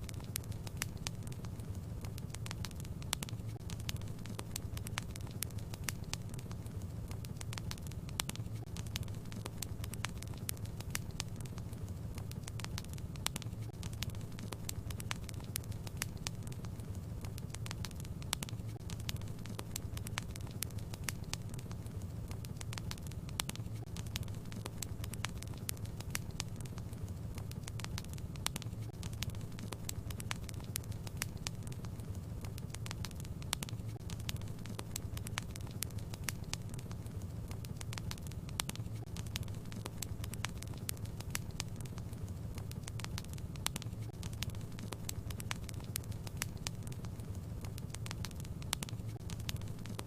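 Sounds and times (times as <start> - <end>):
fireplace fire crackling: 0.0 - 50.0
low fire rumble: 0.0 - 50.0.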